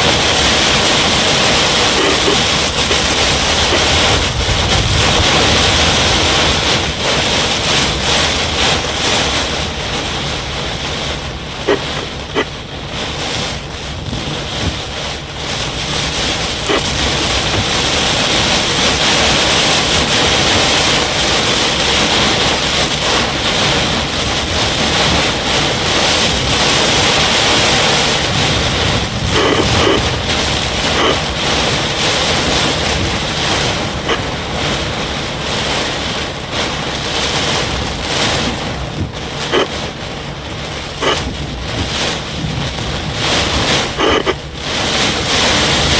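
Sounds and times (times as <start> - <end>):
heavy rain: 0.0 - 45.9
strong wind buffeting microphone: 0.0 - 45.9.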